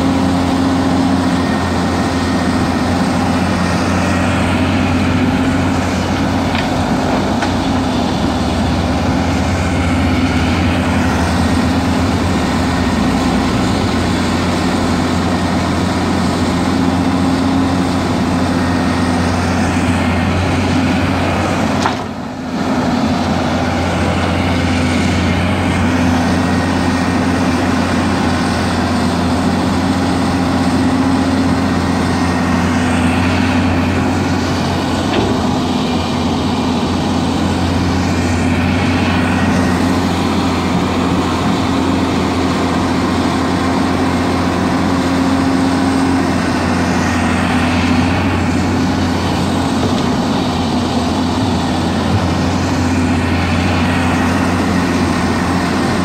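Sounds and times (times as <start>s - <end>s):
excavator diesel engine humming: 0.0s - 56.0s.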